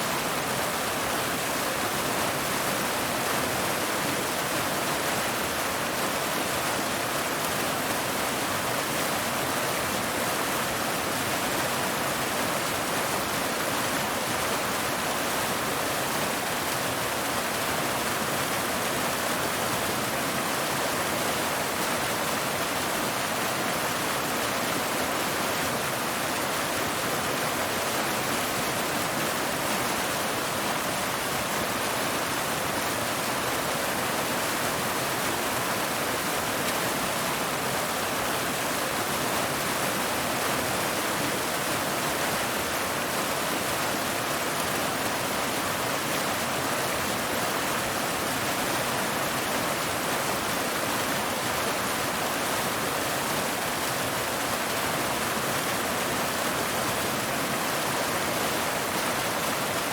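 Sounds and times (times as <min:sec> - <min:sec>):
waterfall splashing over rocks: 0:00.0 - 0:59.9.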